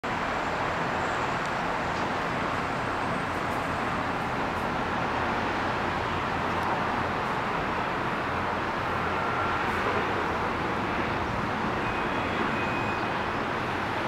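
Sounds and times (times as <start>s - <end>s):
distant city traffic roar: 0.0s - 14.0s.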